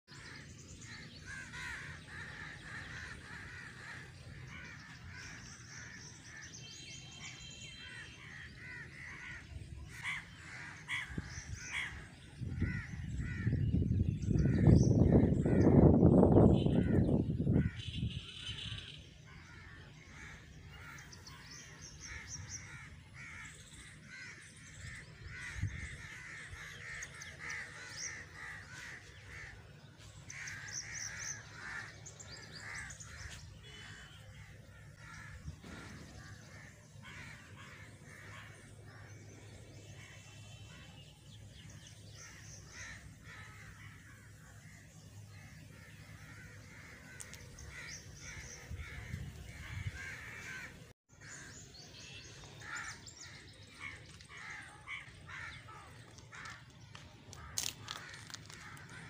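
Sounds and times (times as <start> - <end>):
crows cawing: 0.2 - 6.5, 7.8 - 13.6, 19.3 - 29.7, 30.3 - 39.4, 42.2 - 51.6, 52.6 - 59.0.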